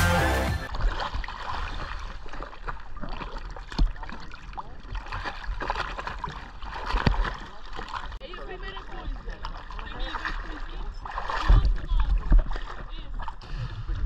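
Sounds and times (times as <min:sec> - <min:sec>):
water sloshing and gurgling: 0:00.6 - 0:14.0.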